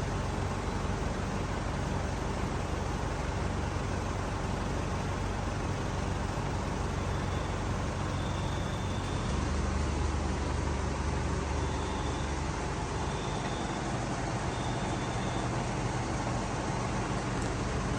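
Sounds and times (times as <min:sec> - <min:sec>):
vehicle engine and road noise: 0:00.0 - 0:17.9.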